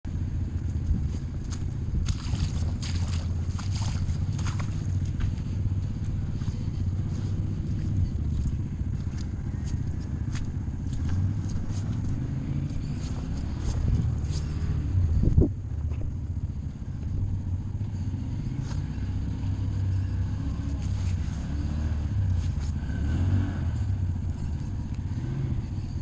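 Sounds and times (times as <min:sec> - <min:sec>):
off-road vehicle engine running: 0:00.0 - 0:26.0.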